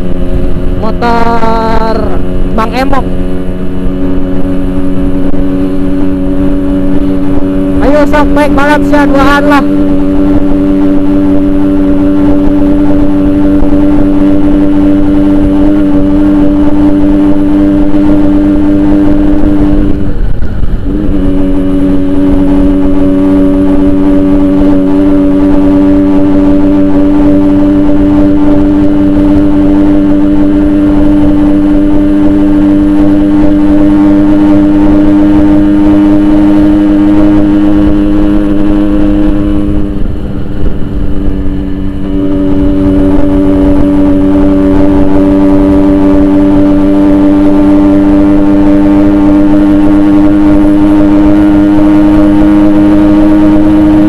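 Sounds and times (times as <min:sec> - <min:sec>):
two-stroke motorcycle engine running: 0:00.0 - 0:54.0.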